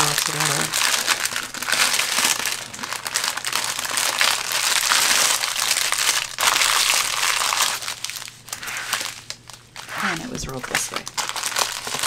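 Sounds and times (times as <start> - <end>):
plastic film crinkling: 0.0 - 12.0.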